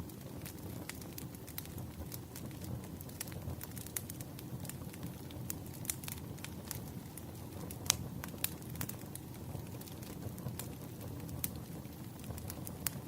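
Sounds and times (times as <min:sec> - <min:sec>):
firewood crackling: 0:00.0 - 0:13.0.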